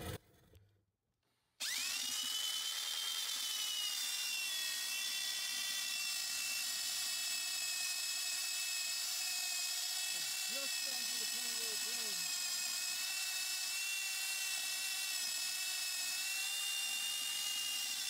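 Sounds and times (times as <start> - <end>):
electric drill mixing mortar: 1.6 - 18.0.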